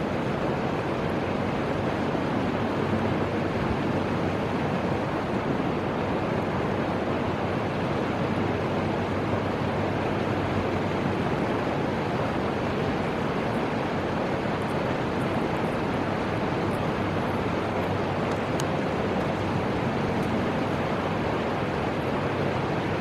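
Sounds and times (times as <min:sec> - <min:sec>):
river water flowing: 0:00.0 - 0:23.0.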